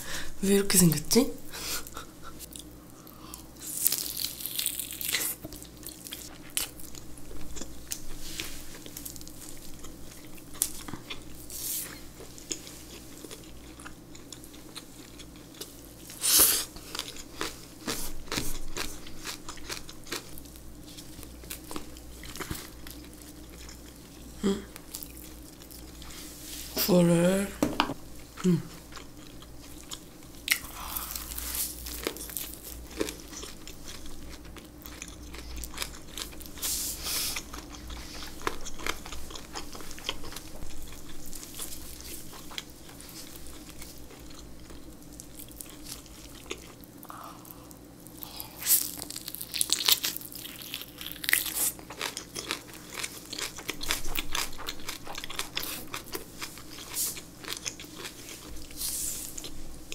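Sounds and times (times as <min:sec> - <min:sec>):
crunchy chewing: 0:01.8 - 0:26.3, 0:28.3 - 0:59.9.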